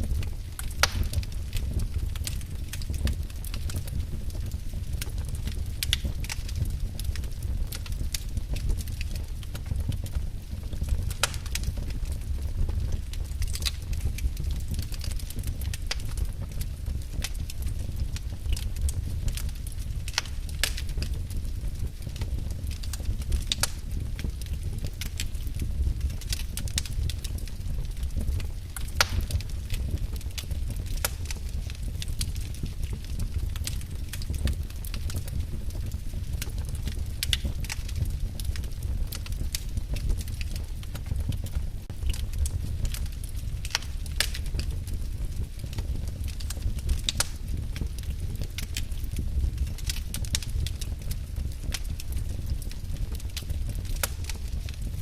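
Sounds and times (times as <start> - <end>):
fire flame rumble: 0.0 - 55.0
logs crackling and popping: 0.0 - 55.0.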